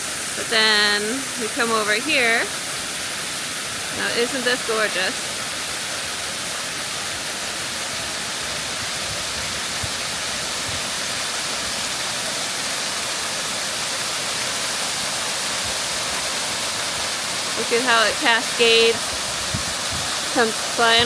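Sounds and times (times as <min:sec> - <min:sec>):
small waterfall splashing: 0:00.0 - 0:21.0.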